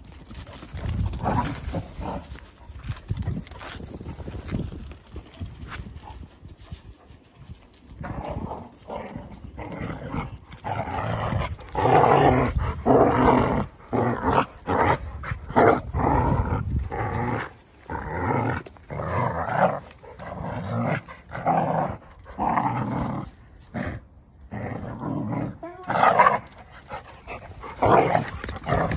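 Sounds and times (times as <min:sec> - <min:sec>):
dogs growling: 0:00.3 - 0:04.3, 0:08.0 - 0:28.9.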